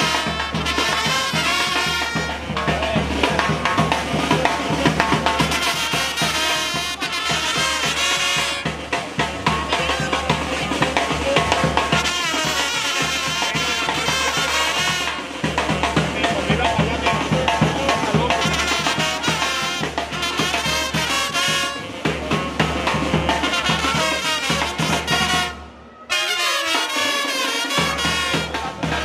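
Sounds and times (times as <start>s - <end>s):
steady drum beat: 0.0s - 29.0s
trumpets and trombones: 0.0s - 29.0s.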